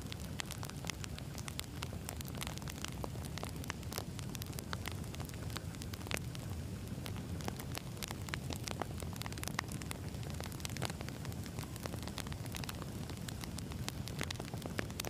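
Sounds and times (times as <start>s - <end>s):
burning logs crackling and popping: 0.0s - 15.0s
low rumble of flames: 0.0s - 15.0s.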